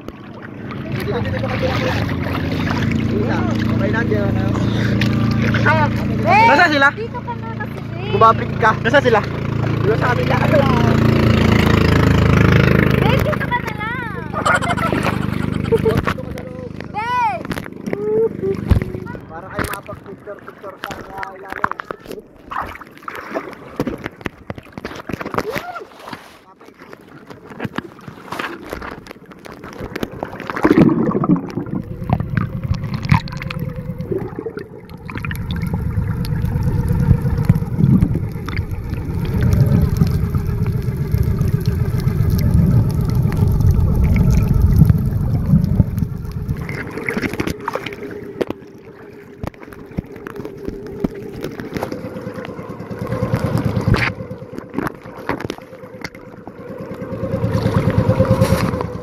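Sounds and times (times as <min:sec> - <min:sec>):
boat engine hum: 0:00.0 - 0:59.0
water sloshing and gurgling: 0:00.0 - 0:59.0.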